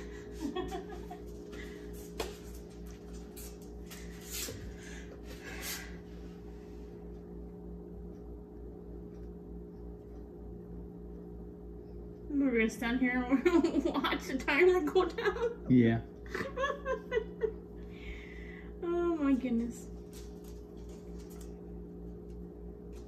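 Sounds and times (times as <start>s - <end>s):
electrical hum of kitchen range: 0.0s - 23.0s.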